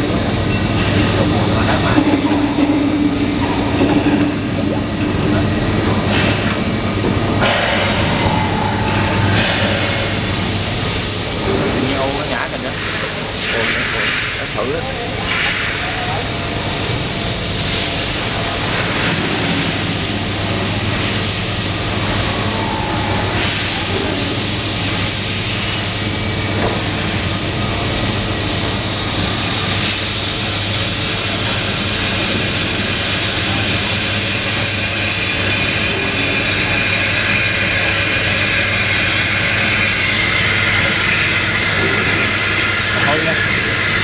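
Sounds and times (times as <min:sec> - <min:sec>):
machine humming and hissing: 0:00.0 - 0:44.0.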